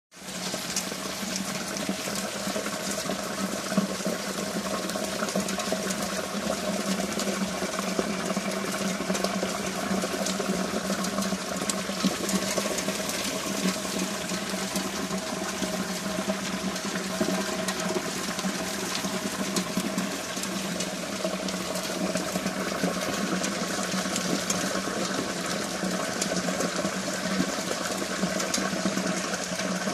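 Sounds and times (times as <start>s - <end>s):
heavy rain pattering: 0.1s - 29.9s.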